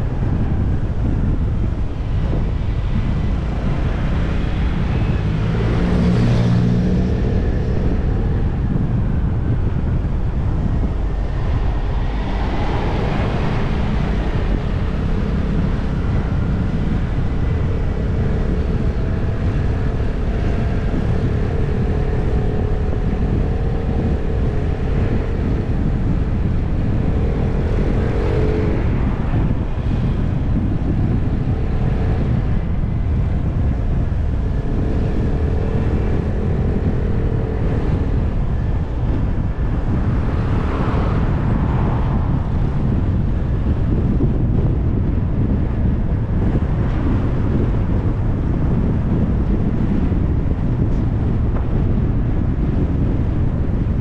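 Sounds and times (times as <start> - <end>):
wind rumble on microphone: 0.0 - 54.0.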